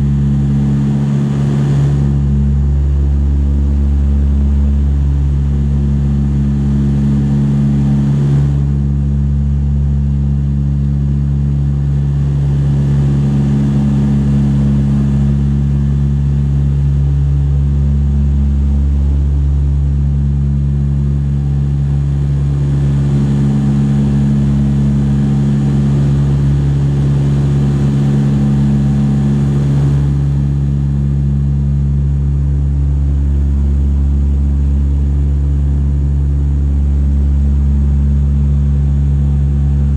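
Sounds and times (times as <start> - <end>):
turboprop engines droning: 0.0 - 39.9.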